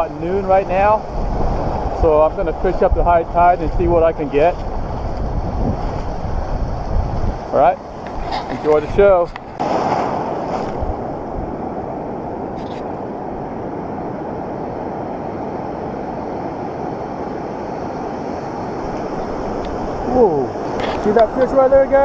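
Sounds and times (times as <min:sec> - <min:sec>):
muffled ocean surf: 0:00.0 - 0:22.0
shallow water washing: 0:00.0 - 0:22.0.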